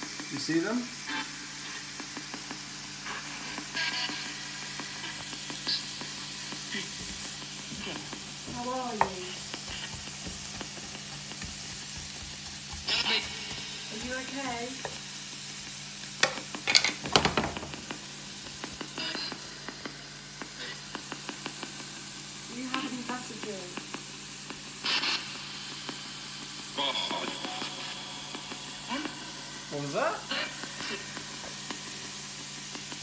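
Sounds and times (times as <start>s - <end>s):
static hiss: 0.0s - 33.0s.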